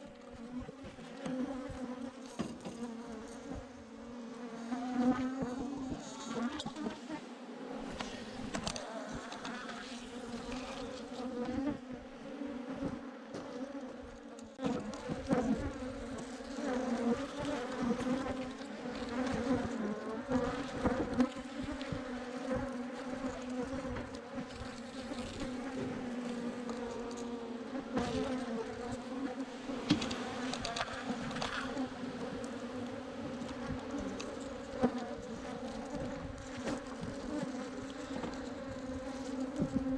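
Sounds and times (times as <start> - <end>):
bees buzzing: 0.3 - 39.9.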